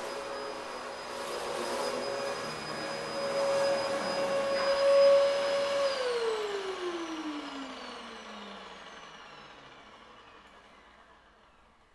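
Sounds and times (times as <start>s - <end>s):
vacuum cleaner motor whine: 0.0s - 11.9s.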